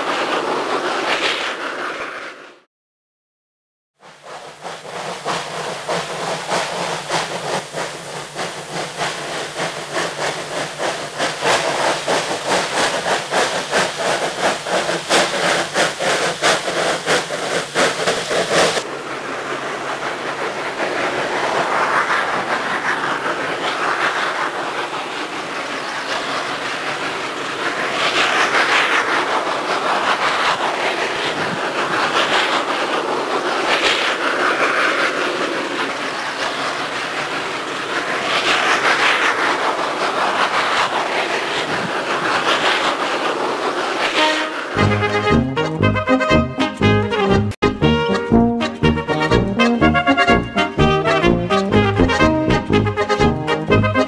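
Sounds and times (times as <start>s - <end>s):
train wheels clickety-clack: 0.0s - 2.3s, 4.0s - 54.0s
rushing train noise: 0.0s - 2.7s, 4.0s - 54.0s.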